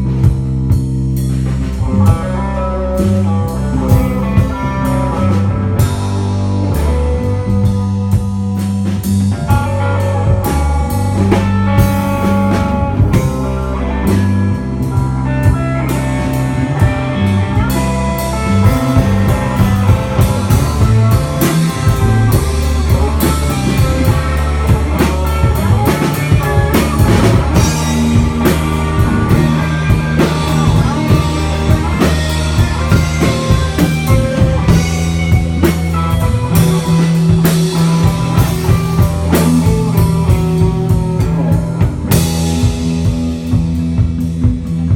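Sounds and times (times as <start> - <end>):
bass line: 0.0 - 44.9
drum kit: 0.0 - 44.9
electric guitar: 0.0 - 44.9.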